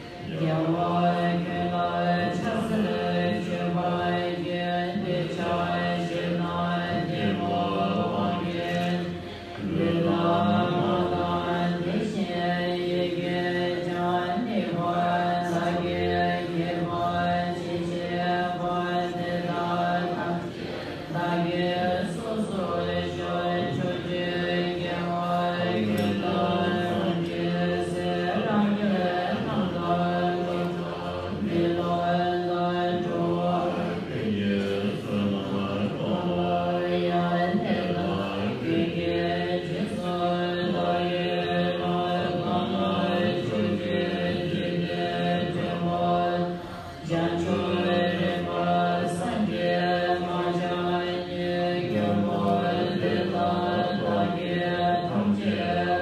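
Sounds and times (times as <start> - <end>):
group chanting in unison: 0.0 - 56.0.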